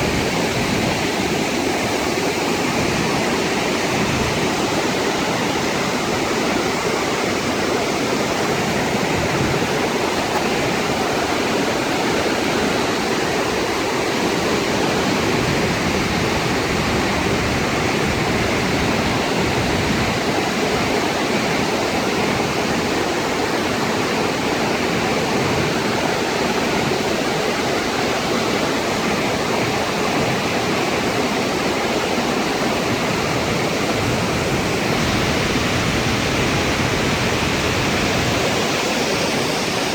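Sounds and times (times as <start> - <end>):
flood water rushing: 0.0 - 39.9.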